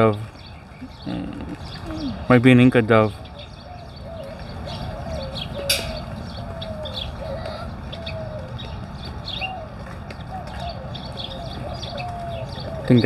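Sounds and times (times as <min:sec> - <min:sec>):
birds chirping: 0:00.0 - 0:13.0
doves cooing: 0:00.0 - 0:13.0.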